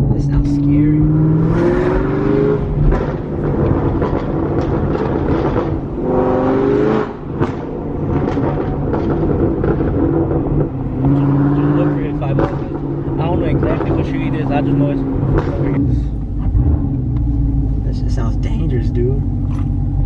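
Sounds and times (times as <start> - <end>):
car engine revving hard: 0.0 - 17.8
exhaust crackling and popping: 0.0 - 20.0.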